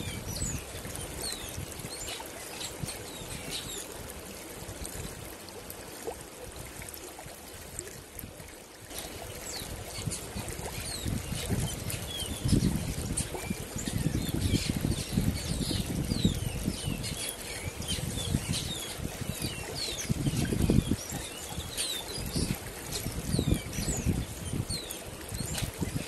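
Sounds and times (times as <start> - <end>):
small birds chirping: 0.0 - 4.0, 8.9 - 26.0
wind rumbling on microphone: 0.0 - 26.0.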